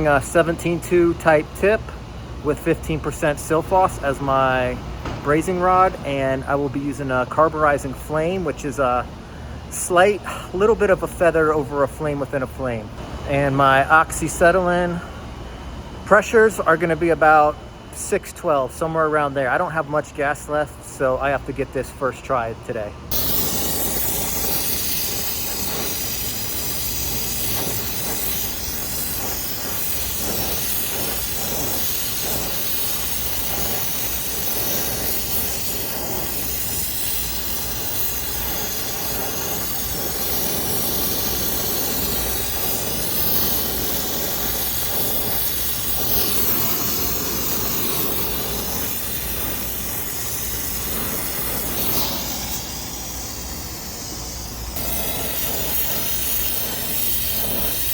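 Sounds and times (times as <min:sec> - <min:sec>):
torch flame hissing: 0:00.0 - 0:15.2, 0:23.1 - 0:57.9.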